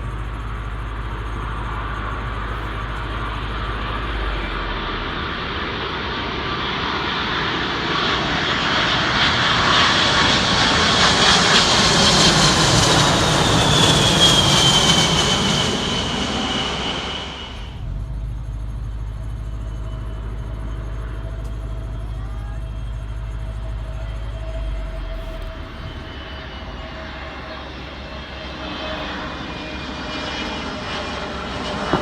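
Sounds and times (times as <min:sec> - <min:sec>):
low steady rumble: 0:00.0 - 0:31.9
jet airliner passing: 0:00.0 - 0:32.0.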